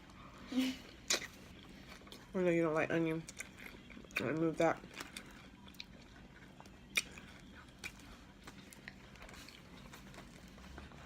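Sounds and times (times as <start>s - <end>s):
person chewing: 0.2s - 2.3s, 3.2s - 11.0s.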